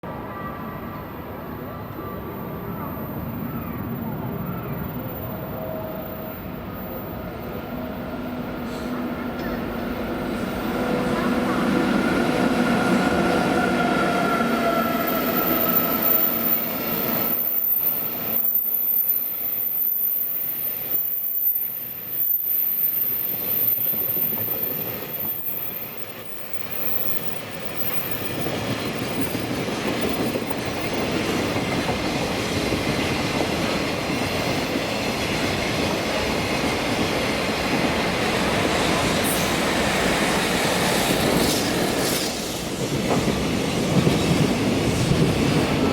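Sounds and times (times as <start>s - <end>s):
freight train wagons rumbling on rails: 0.0s - 18.5s, 23.3s - 45.9s.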